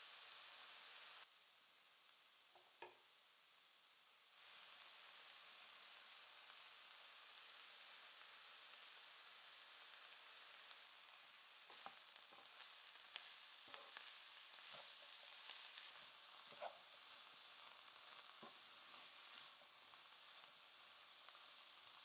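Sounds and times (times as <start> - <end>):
vegetables sizzling in frying pan: 0.0 - 22.0.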